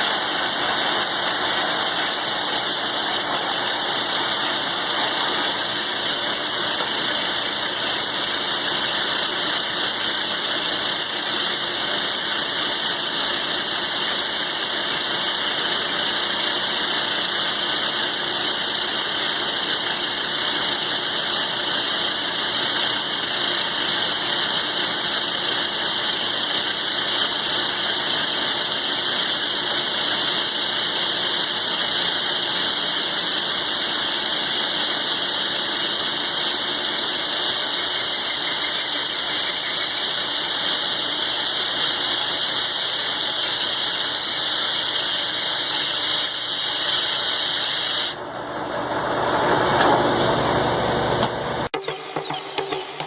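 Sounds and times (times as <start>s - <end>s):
milling machine cutting steel: 0.0s - 48.2s, 49.2s - 53.0s.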